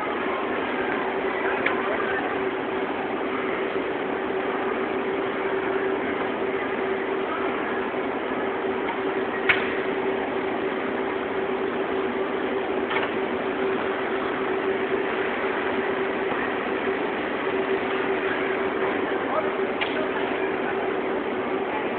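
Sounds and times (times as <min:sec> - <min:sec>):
machine humming: 0:00.0 - 0:21.9.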